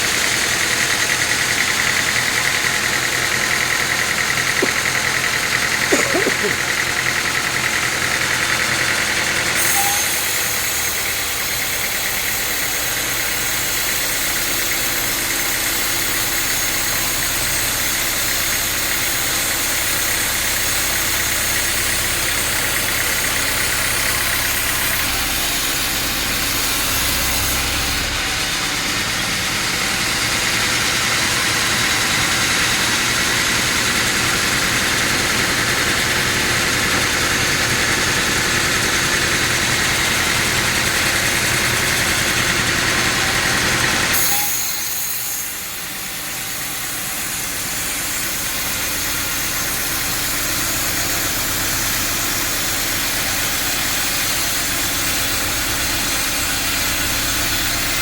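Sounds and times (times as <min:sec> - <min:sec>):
sawmill machinery sawing log: 0:00.0 - 0:58.0.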